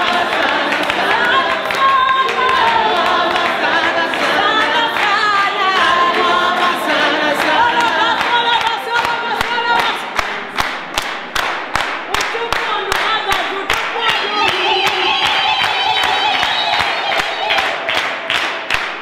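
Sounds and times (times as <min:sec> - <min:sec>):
group singing unaccompanied: 0:00.0 - 0:10.9, 0:12.2 - 0:18.5
rhythmic hand clapping: 0:00.0 - 0:19.0.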